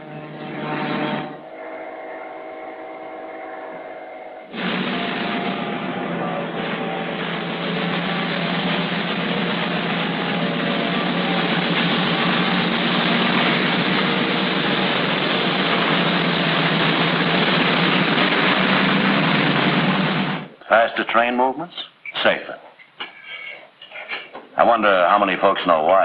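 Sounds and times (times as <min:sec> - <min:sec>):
diesel locomotive hauling freight train: 0:00.0 - 0:22.0.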